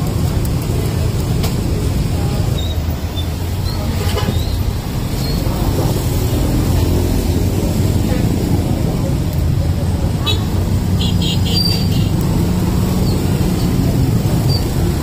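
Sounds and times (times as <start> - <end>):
cars passing: 0.0 - 15.0
deep traffic rumble: 0.0 - 15.0
motorbikes passing: 0.0 - 15.0.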